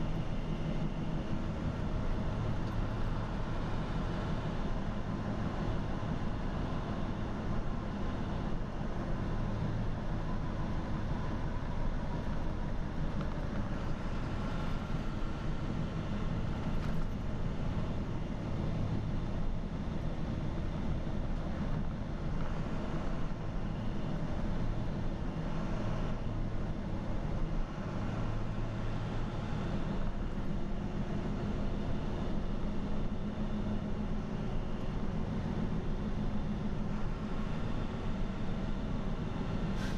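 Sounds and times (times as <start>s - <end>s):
road and engine noise inside vehicle: 0.0s - 39.9s.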